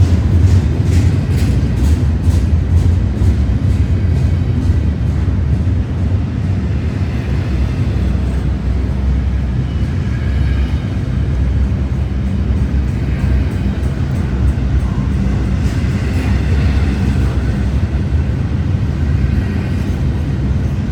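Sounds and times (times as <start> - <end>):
freight train passing: 0.0 - 20.9.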